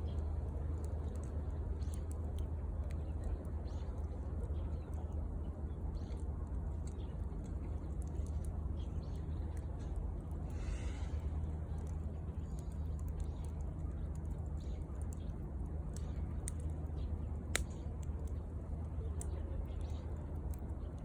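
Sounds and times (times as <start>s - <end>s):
low background noise: 0.0s - 21.0s
wood fire crackling: 0.0s - 21.0s.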